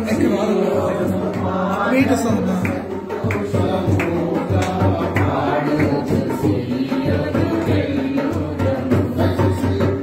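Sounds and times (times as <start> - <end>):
person singing devotional song: 0.0 - 10.0
steady drum beat: 0.0 - 10.0.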